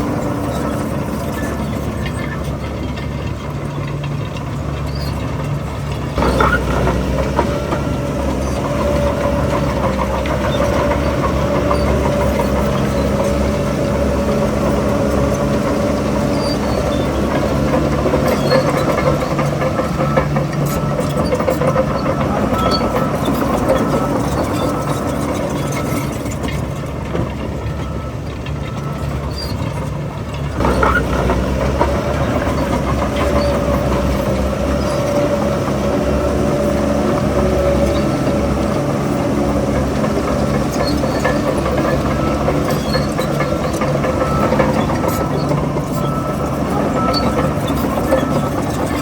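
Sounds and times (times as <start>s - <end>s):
diesel engine under load: 0.0s - 49.0s.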